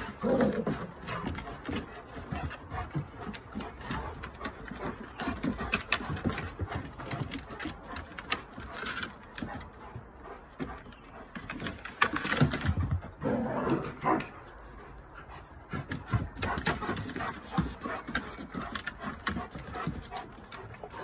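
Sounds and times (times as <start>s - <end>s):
paws and claws on wooden decking: 0.0s - 21.0s.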